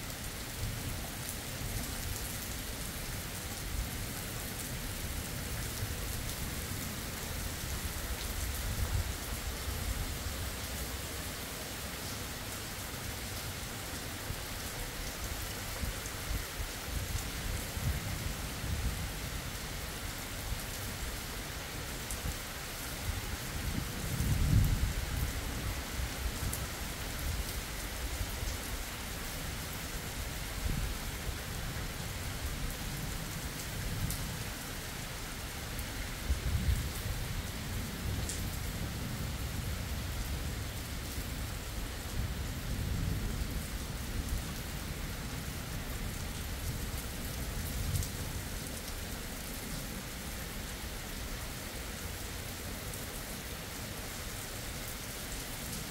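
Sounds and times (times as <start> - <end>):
rain on wet road: 0.0 - 55.9.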